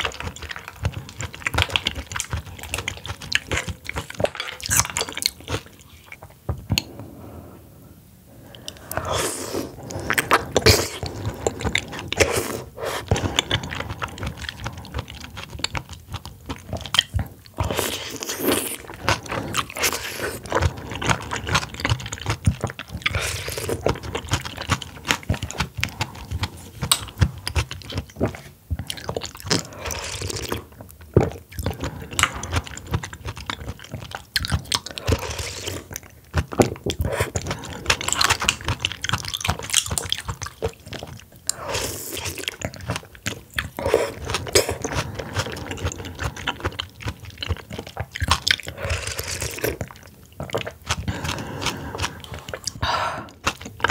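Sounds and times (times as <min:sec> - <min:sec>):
wet chewing clicks and smacks: 0:00.0 - 0:06.9, 0:10.0 - 0:53.9.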